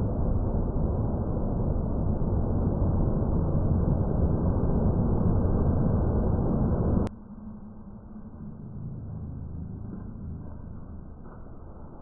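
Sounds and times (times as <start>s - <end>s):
slowed thunderstorm deep noise: 0.0s - 12.0s.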